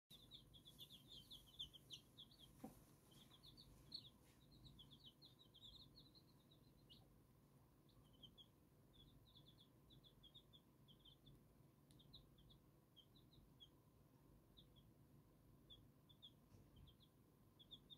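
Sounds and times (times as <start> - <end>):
chicks peeping: 0.1 - 17.9.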